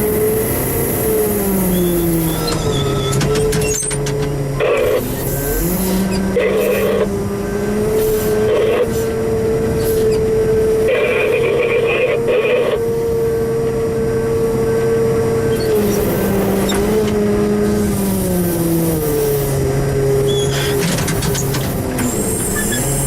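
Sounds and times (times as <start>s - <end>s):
heavy machinery whining: 0.0s - 23.0s.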